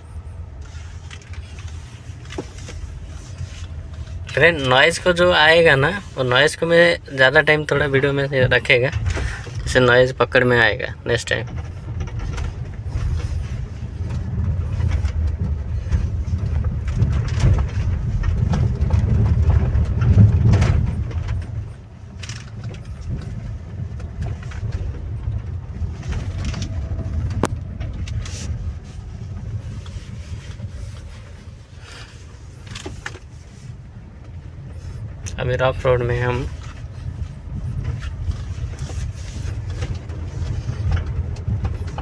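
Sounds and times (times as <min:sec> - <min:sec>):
suspension clicks and knocks: 0:00.0 - 0:42.0
tyre and suspension rumble: 0:00.0 - 0:42.0.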